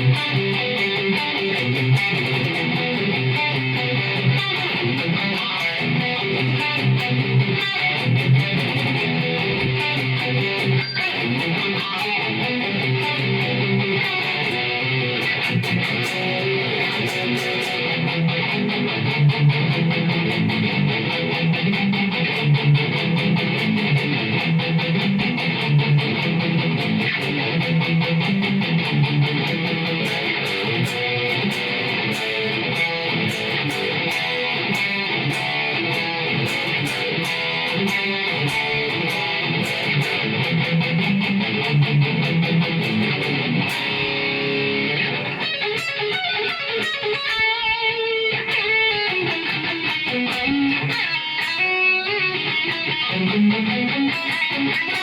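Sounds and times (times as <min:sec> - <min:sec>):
distorted electric guitar riffs: 0:00.0 - 0:55.0.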